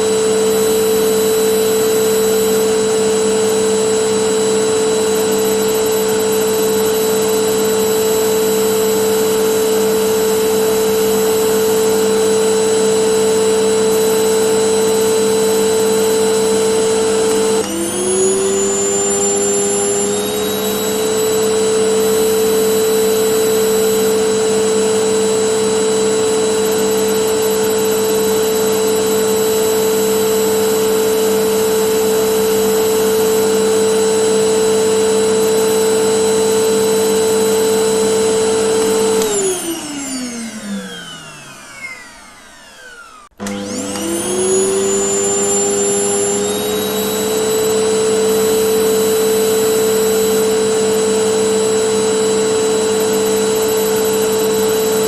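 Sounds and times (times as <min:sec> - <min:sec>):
vacuum cleaner motor whining: 0:00.0 - 0:55.0.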